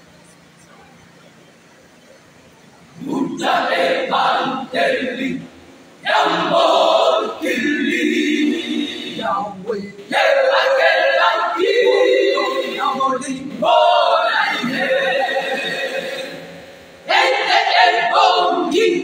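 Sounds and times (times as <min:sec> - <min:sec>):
women's choir singing: 0:03.0 - 0:09.4, 0:10.1 - 0:19.0.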